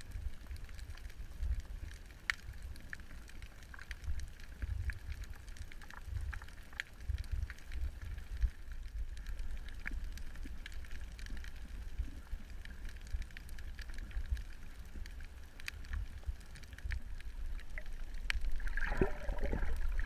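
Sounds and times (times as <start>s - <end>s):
crackling clicks: 0.0s - 20.0s
muffled underwater rumble: 0.0s - 20.0s.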